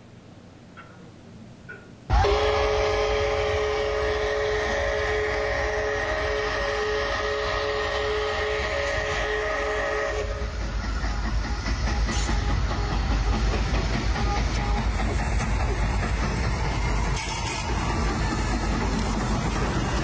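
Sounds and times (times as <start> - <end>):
locomotive rumbling on track: 1.3 - 20.0
steam locomotive chime whistle: 2.1 - 15.4, 16.7 - 20.0.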